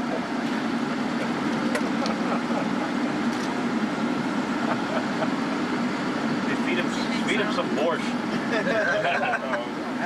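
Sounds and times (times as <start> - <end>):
ventilation fans humming: 0.0 - 10.0.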